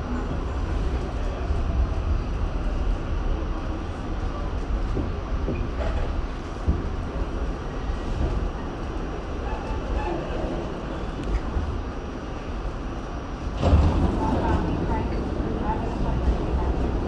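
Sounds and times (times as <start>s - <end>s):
subway train rumbling on track: 0.0s - 17.0s.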